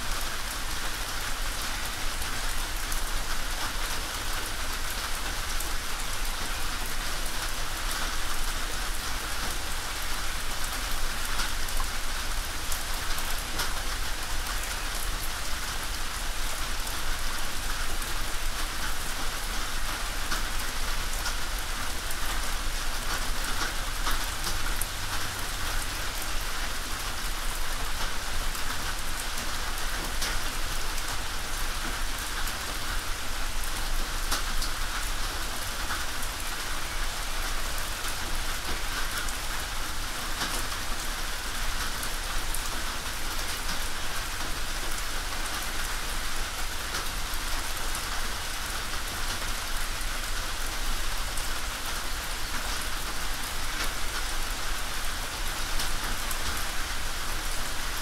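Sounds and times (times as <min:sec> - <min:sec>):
rain drumming on a tin roof: 0:00.0 - 0:58.0.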